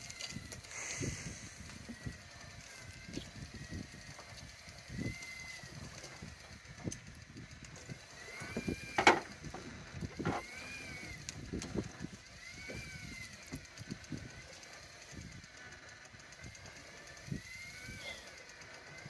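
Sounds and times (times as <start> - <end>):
electric fishing reel motor whine: 0.0 - 19.0.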